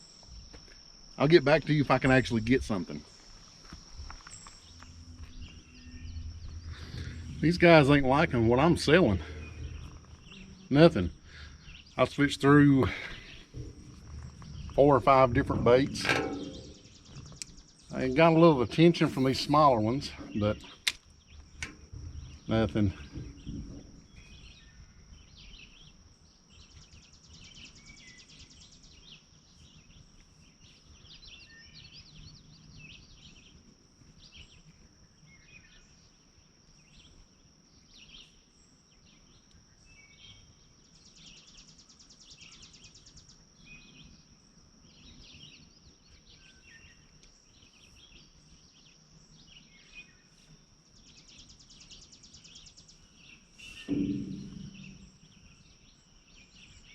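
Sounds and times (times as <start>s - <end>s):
insect drone and trill: 0.0s - 56.9s
small birds chirping: 0.0s - 56.9s.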